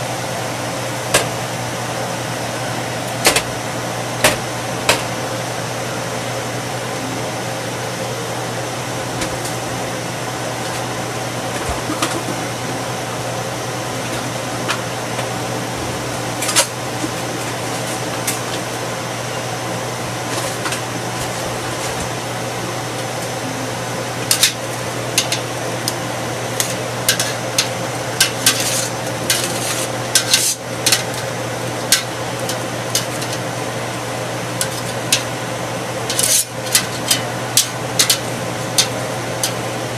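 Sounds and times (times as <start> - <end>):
pot boiling: 0.1 - 39.9.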